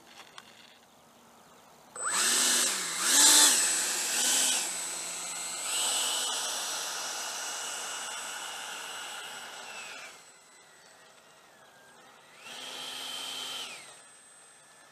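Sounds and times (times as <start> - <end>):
electric ducted fans whining: 0.0 - 14.9.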